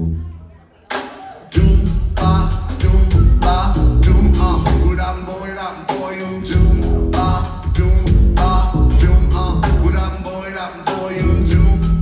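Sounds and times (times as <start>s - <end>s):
live rock band playing: 1.6s - 12.0s.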